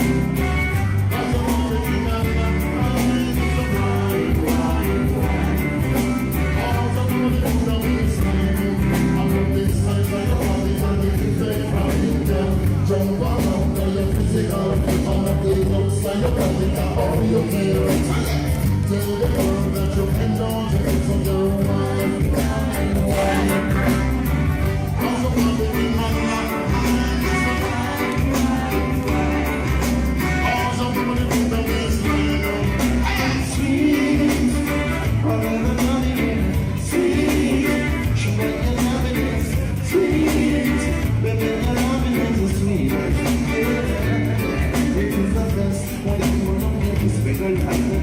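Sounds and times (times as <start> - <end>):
bass line: 0.0 - 48.0
live reggae band: 0.0 - 48.0
person singing: 0.0 - 48.0.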